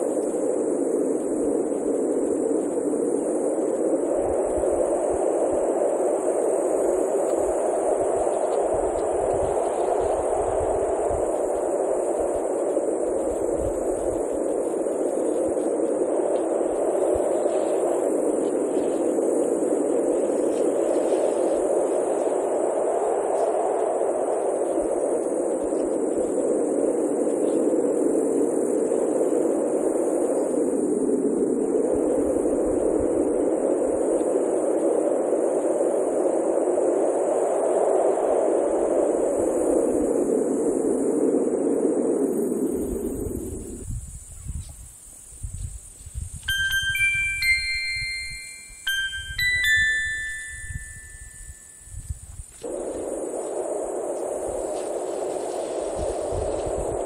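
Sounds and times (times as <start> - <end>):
steady static-like rushing noise: 0.0 - 44.3, 46.5 - 57.0
thin high hiss: 0.0 - 57.0.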